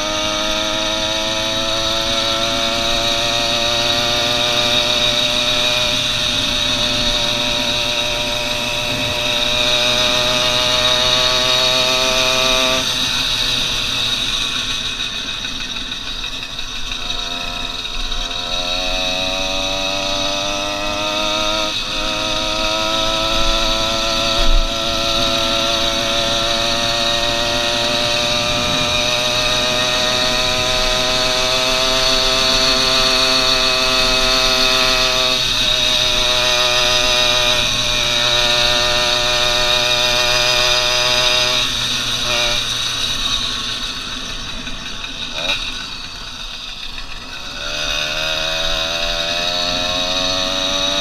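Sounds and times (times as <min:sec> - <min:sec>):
two-stroke bicycle engine running: 0:00.0 - 0:51.0.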